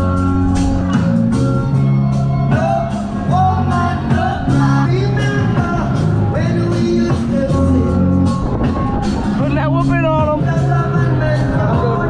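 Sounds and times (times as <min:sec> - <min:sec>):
song with singing over a beat: 0:00.0 - 0:12.0.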